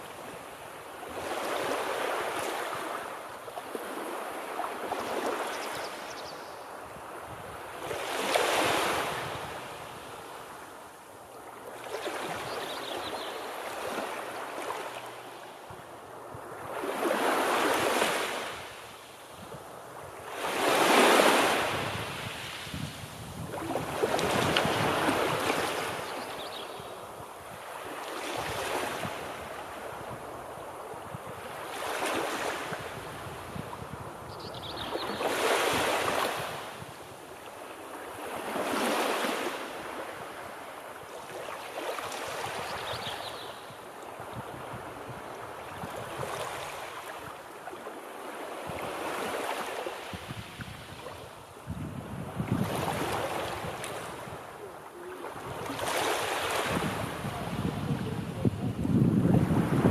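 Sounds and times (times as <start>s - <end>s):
small waves breaking on shore: 0.0s - 59.9s.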